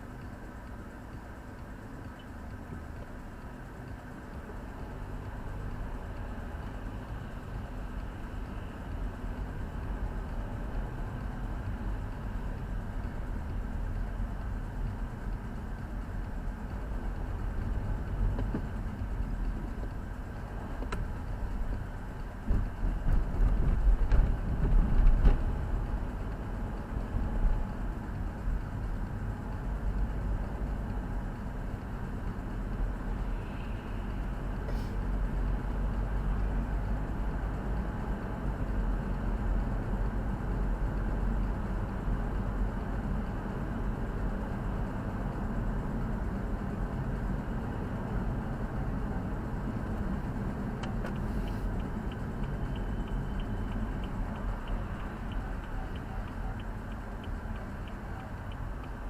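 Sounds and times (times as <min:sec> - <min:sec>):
car engine and road rumble: 0:00.0 - 0:59.0
turn signal ticking: 0:00.0 - 0:59.0.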